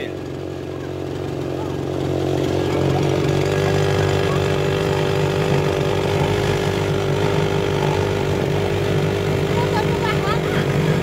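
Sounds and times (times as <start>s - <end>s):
two-stroke outboard motor droning: 0.0s - 11.0s.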